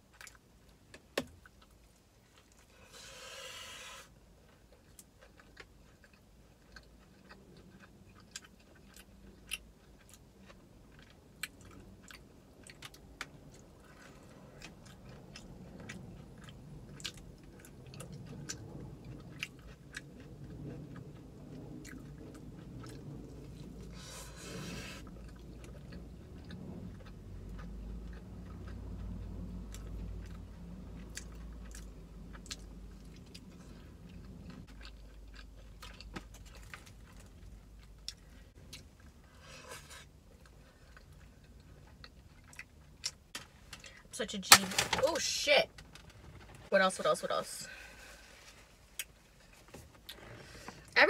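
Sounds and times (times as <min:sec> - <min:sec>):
chewing crispy sandwich: 0:00.0 - 0:44.1.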